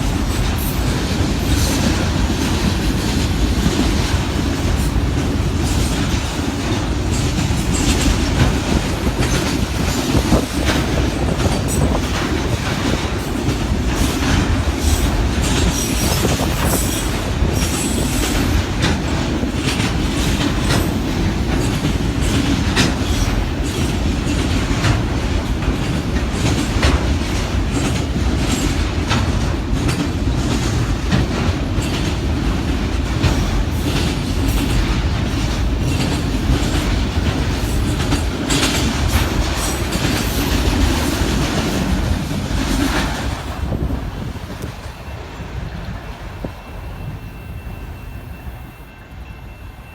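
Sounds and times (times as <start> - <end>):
clicking over rail joints: 0.0 - 45.0
train wheels rumbling on rail: 0.0 - 49.9.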